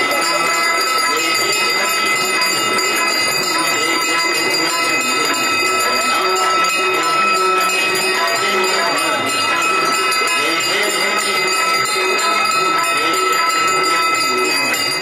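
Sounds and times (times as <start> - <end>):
many bells ringing: 0.0 - 15.0
person singing or chanting: 0.0 - 15.0.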